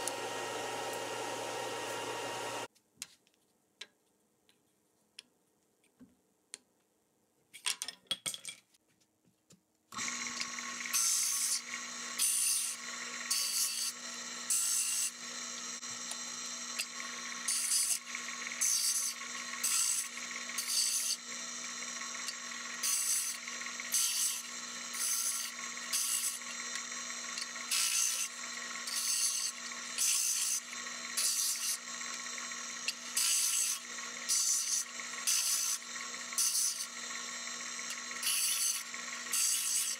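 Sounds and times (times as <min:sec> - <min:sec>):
disc sander humming: 0:00.0 - 0:02.7, 0:10.0 - 0:39.9.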